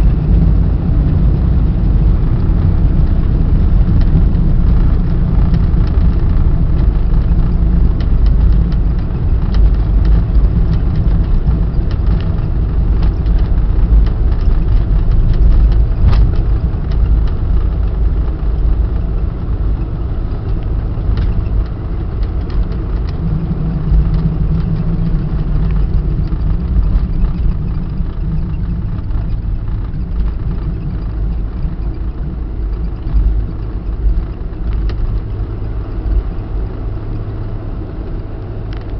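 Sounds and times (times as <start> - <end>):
airplane cabin low rumble: 0.0 - 38.9
rattles and clicks: 0.0 - 38.9.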